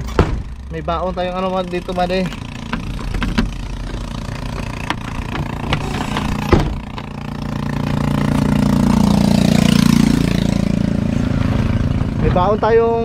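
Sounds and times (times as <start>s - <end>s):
truck engine: 0.0s - 13.0s.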